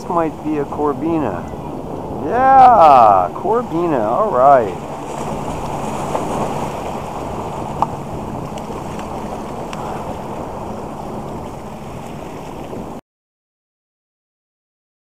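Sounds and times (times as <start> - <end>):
waves washing over rocks: 0.0 - 13.0
wind buffeting microphone: 0.0 - 13.0.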